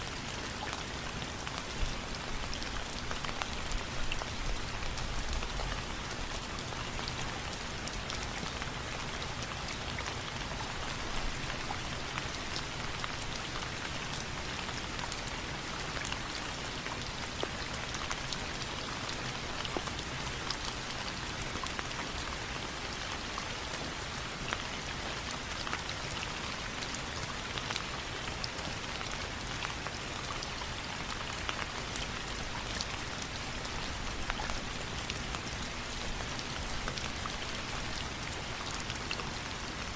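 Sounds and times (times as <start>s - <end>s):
rain ticks and crackles: 0.0s - 39.9s
steady rain hiss: 0.0s - 39.9s.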